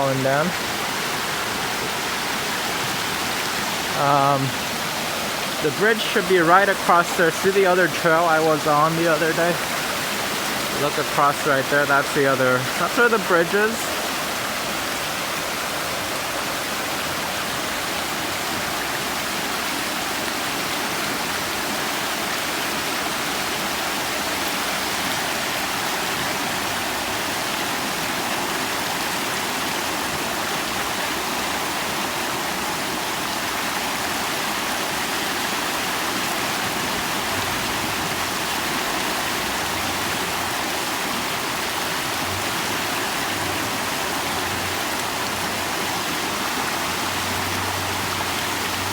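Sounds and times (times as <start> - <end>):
creek rushing water: 0.0 - 48.9.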